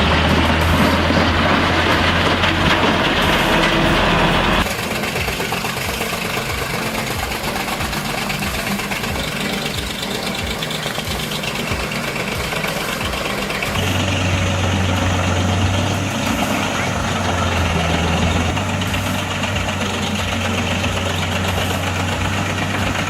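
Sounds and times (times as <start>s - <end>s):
rhythmic engine pulsing: 0.0s - 23.0s
wood chipper running: 0.0s - 23.0s.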